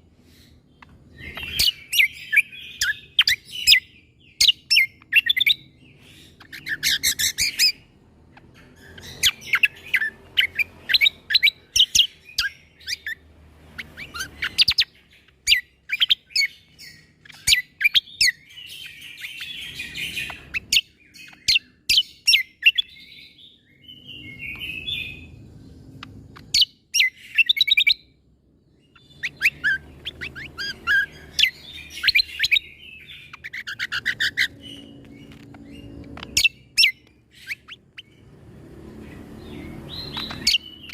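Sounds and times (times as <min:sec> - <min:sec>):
bird singing sharp rapid notes: 0:00.0 - 0:40.9.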